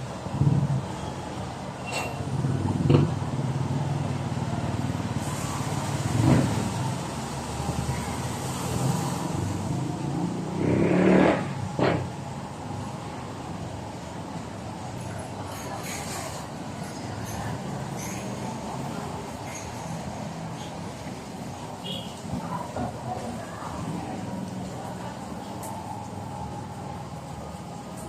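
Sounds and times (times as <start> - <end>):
road noise: 0.0 - 28.0.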